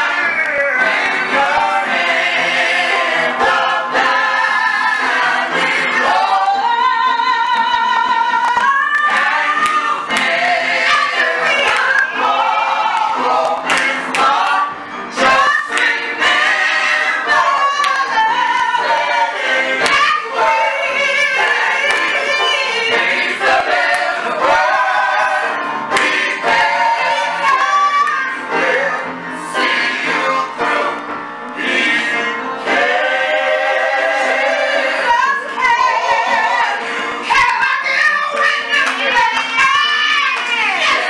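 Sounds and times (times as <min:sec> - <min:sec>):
gospel choir singing: 0:00.0 - 0:41.0.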